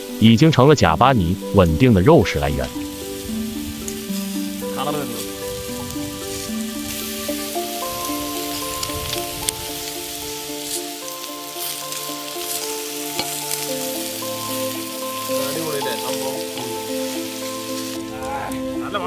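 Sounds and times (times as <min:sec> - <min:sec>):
background music: 0:00.0 - 0:19.0
steaks sizzling on hot stones: 0:00.0 - 0:19.0.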